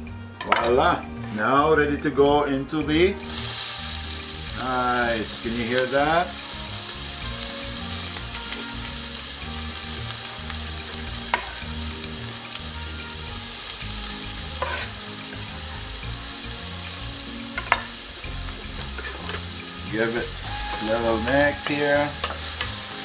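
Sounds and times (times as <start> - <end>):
vegetables sizzling in oil: 3.2 - 23.0.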